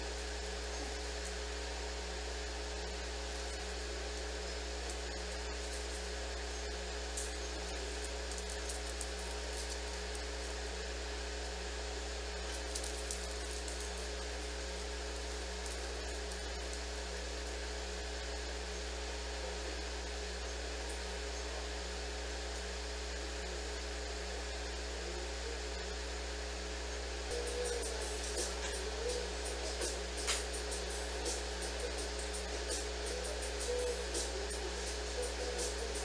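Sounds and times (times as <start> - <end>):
electrical hum with hiss: 0.0 - 36.0.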